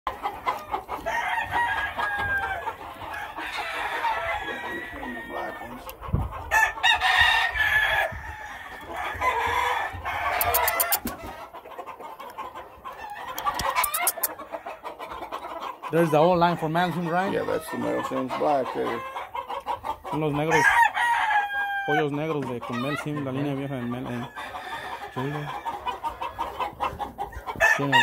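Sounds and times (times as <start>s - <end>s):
chickens clucking: 0.1s - 28.0s
roosters crowing: 0.1s - 28.0s.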